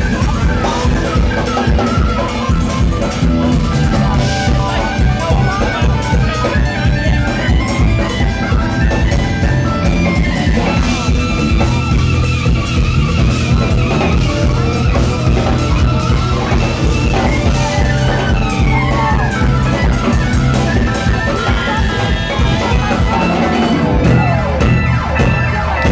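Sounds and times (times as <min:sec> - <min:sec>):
jazz fusion band playing: 0:00.0 - 0:25.9.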